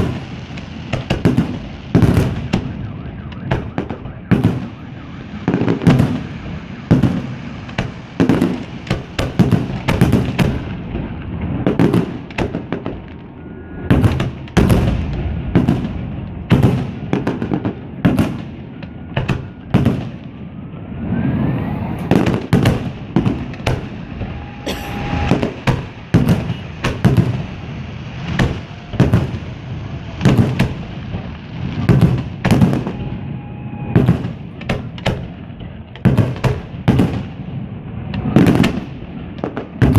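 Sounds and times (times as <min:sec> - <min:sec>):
fireworks exploding: 0:00.0 - 0:39.9.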